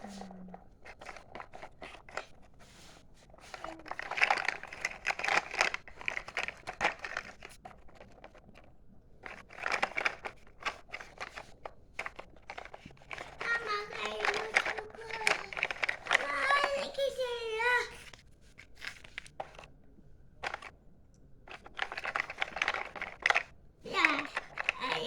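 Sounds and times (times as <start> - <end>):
crinkling handling noise: 0.0 - 25.0.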